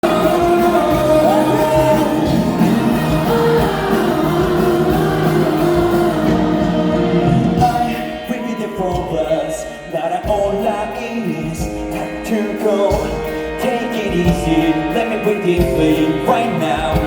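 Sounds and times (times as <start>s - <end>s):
pop song with sung vocals: 0.0s - 17.0s.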